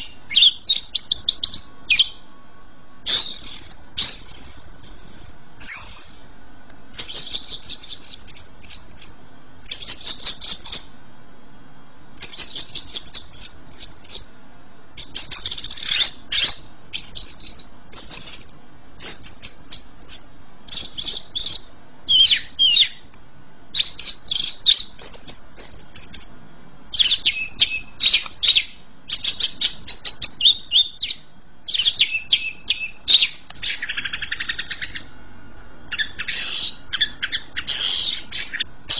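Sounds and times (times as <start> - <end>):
bird chattering whistled song: 0.0 - 2.4, 3.0 - 11.0, 12.2 - 14.3, 15.0 - 23.1, 23.7 - 35.1, 35.9 - 38.9.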